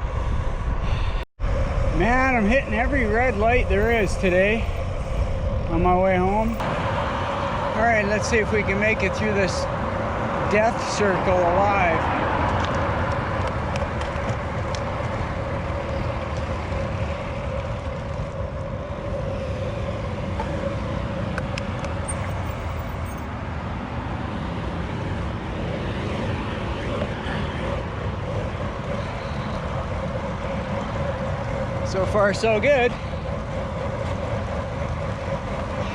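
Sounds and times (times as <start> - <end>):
low rushing noise: 0.0 - 35.9
road traffic noise: 0.0 - 35.9
steady hum: 0.0 - 35.9.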